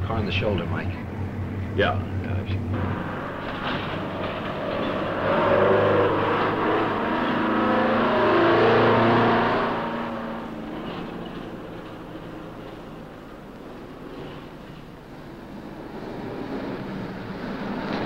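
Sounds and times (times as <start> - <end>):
diesel truck passing on highway: 0.0 - 18.0.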